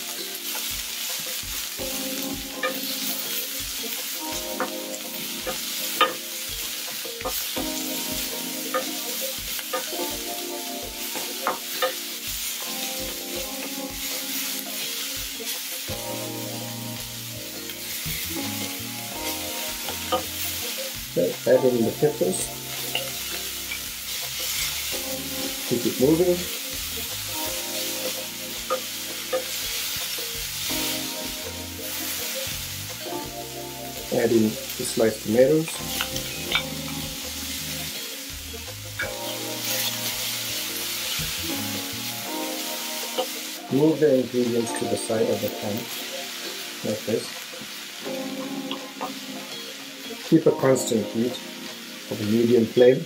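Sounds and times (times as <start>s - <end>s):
background music: 0.0s - 53.0s
onions sizzling in oil: 0.0s - 53.0s.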